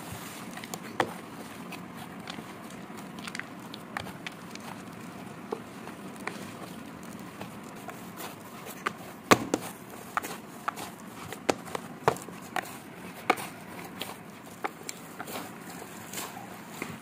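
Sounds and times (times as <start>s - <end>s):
dough slapping in a bowl: 0.2s - 17.0s.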